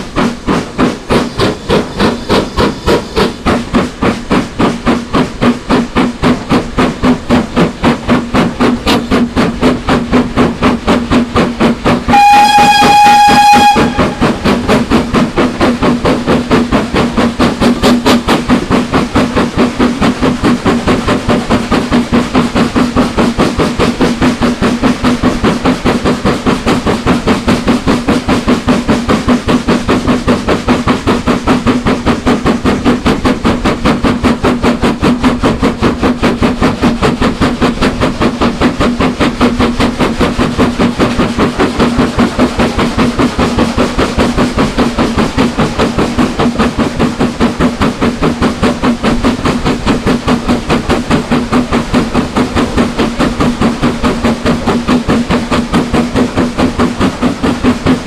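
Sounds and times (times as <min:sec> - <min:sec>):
steam locomotive exhaust beats: 0:00.0 - 0:58.0.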